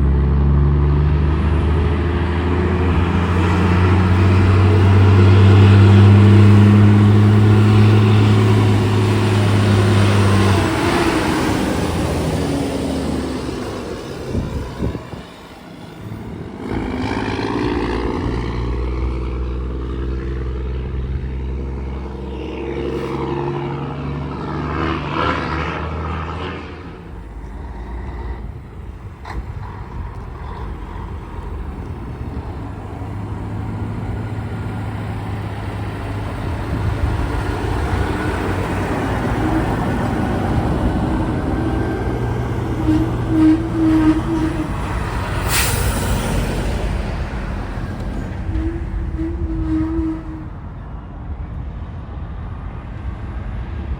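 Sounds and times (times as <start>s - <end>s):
heavy trucks passing: 0.0s - 53.9s
low engine hum: 0.0s - 53.9s.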